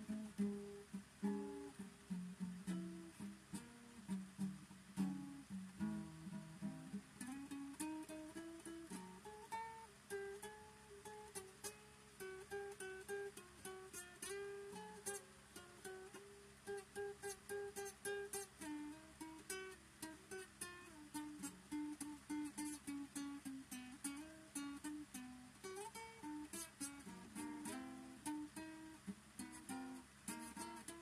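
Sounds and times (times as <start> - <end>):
acoustic guitar picking melody: 0.0 - 31.0.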